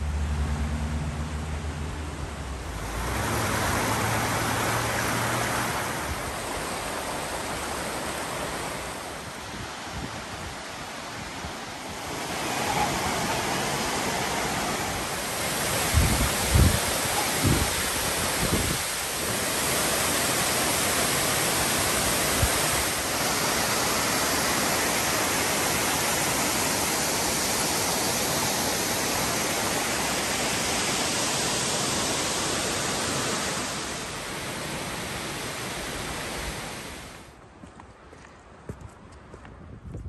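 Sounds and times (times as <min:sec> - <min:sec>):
waterfall rushing: 0:00.0 - 0:37.3.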